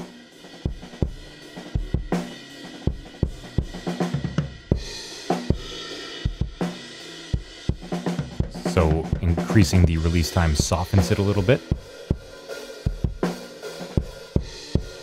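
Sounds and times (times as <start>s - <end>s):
drum kit groove: 0.0s - 15.0s.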